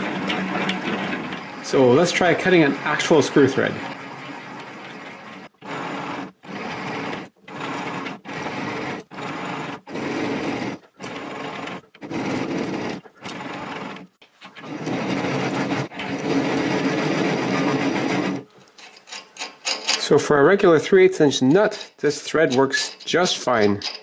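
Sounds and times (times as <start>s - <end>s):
metal lathe whirring: 0.0s - 20.1s.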